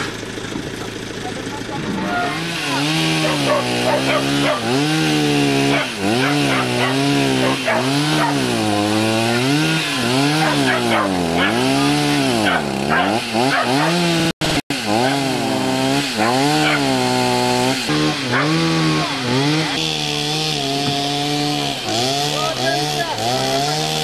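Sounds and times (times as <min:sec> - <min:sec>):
chainsaw cutting brush: 0:00.0 - 0:24.0.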